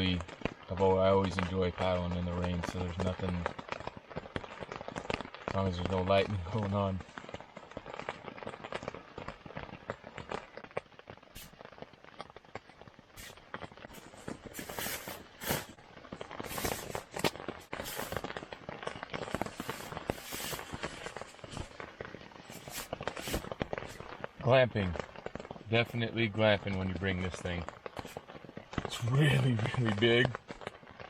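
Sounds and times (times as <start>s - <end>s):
loud crackles: 0.0s - 31.0s
rain pattering on a tent: 0.0s - 31.0s.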